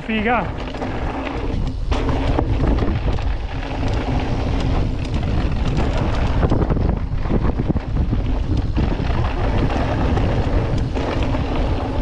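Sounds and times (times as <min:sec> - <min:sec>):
bike rattling and knocking: 0:00.0 - 0:12.0
wind buffeting microphone: 0:00.0 - 0:12.0.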